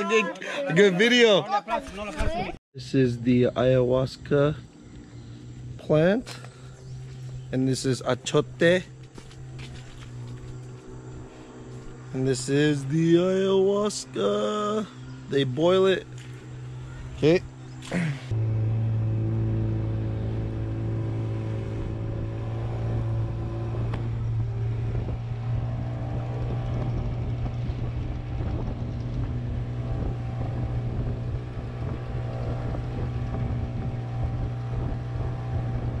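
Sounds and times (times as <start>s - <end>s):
boat engine running: 3.2s - 36.0s.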